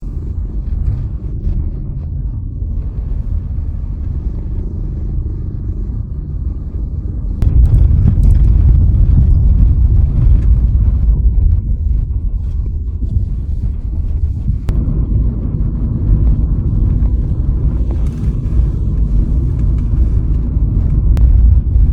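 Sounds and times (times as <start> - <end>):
car road and engine rumble: 0.0 - 21.9.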